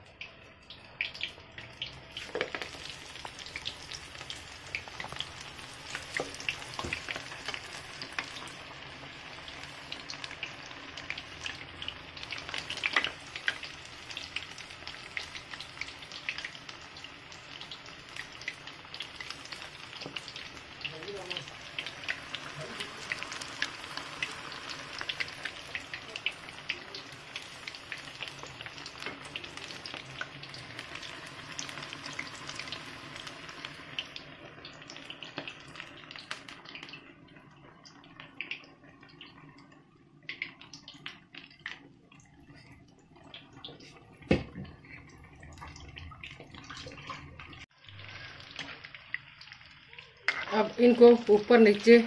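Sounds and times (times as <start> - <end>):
deep-frying sizzle and crackle: 0.0 - 52.0.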